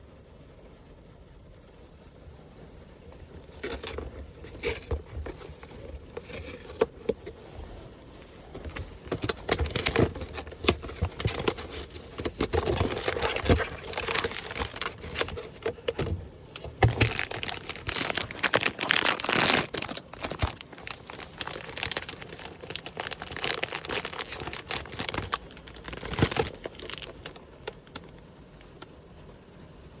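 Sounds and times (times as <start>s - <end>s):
plastic wrapping crinkling: 1.8s - 28.8s
paper or cardboard tearing: 2.6s - 28.1s.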